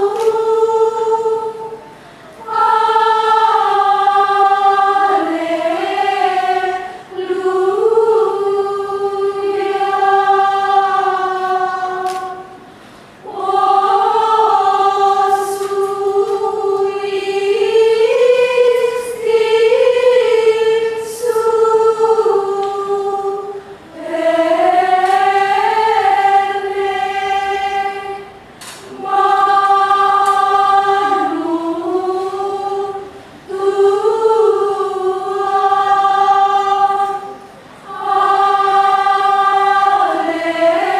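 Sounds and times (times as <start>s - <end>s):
women's choir chanting: 0.0s - 40.9s.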